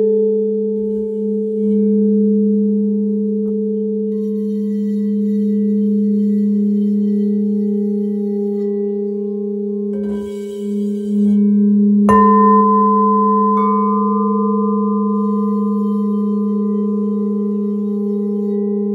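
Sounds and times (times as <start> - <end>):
bowl struck bright tone: 0.0 - 18.9
singing bowls ringing: 0.0 - 18.9.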